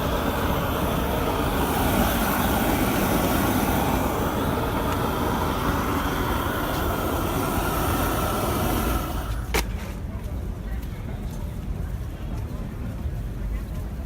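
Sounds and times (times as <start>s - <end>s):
vehicle traffic rumble: 0.0s - 14.0s.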